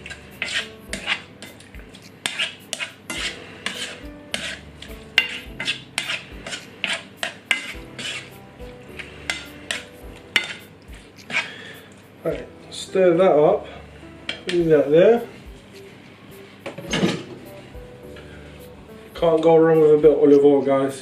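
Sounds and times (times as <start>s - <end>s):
utensil scraping a pan: 0.0s - 21.0s.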